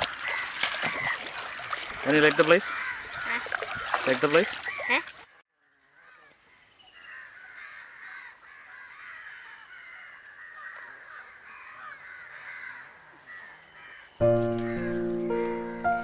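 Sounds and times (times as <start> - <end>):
birds calling in dense chorus: 0.0 - 16.0.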